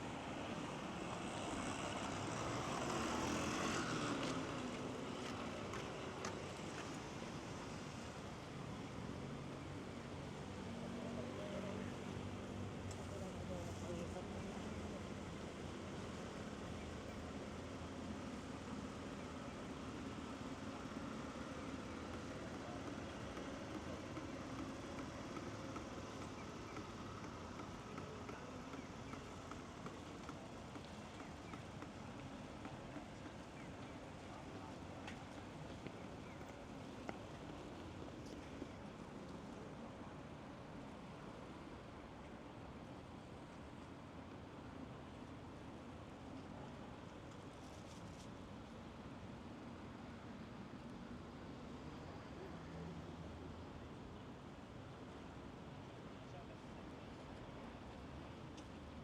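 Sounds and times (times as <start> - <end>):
distant traffic hum: 0.0 - 59.0
outdoor background noise: 0.0 - 59.0.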